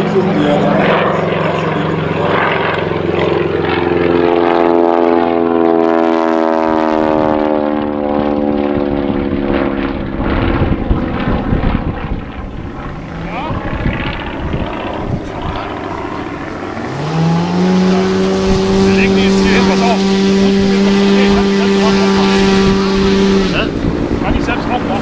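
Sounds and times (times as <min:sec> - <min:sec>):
propeller aircraft flying past: 0:00.0 - 0:25.0.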